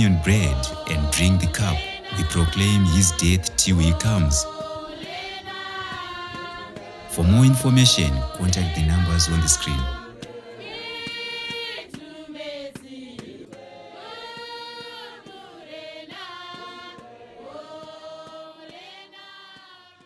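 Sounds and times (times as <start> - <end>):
choir singing held notes: 0.0 - 20.0.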